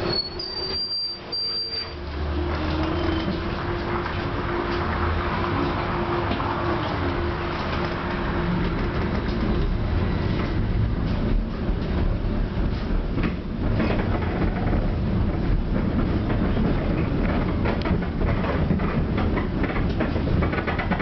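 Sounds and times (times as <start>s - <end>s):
tram low rumble: 0.0s - 21.0s
wheels clicking on rails: 1.9s - 21.0s.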